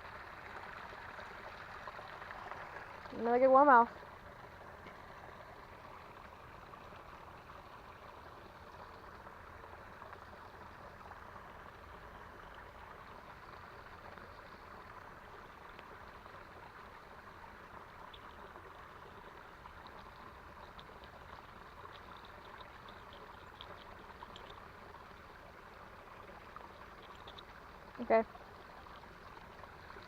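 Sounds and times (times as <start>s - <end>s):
creek water running: 0.0s - 30.0s.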